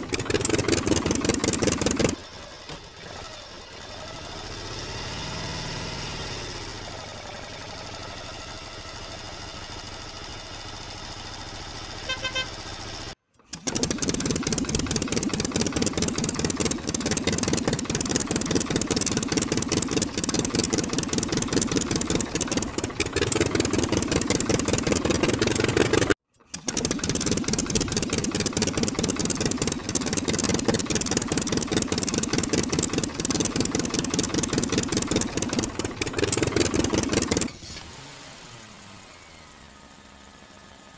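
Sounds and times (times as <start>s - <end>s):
engine chugging: 0.0s - 37.6s
engine drone: 0.0s - 40.9s.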